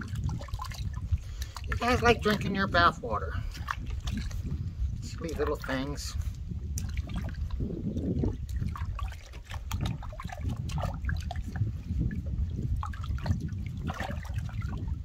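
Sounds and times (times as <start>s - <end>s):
water splashing into plastic tub: 0.0s - 11.6s, 12.8s - 15.0s
low rumble: 0.0s - 15.0s.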